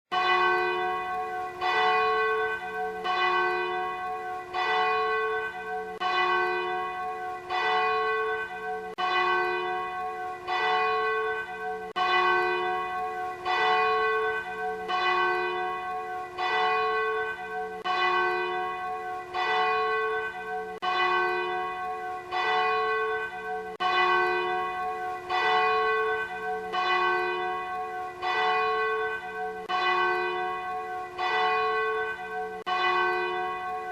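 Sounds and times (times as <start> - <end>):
church bell tolling: 0.1 - 33.9.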